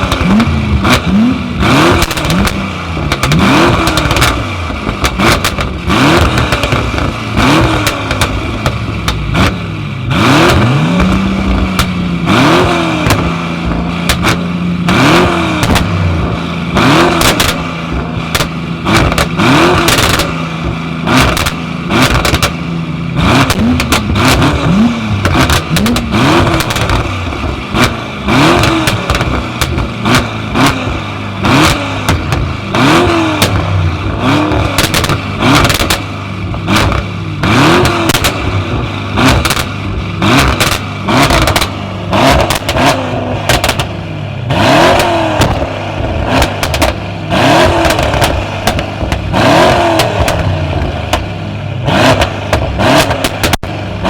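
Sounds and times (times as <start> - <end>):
car engine revving: 0.0 - 54.0
sharp exhaust cracks: 0.0 - 54.0.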